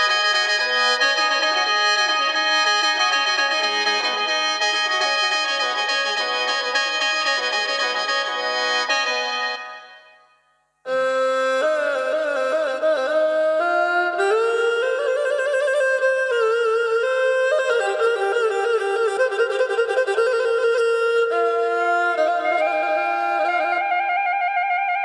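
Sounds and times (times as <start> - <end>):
woodwind-type keyboard melody: 0.0 - 24.8.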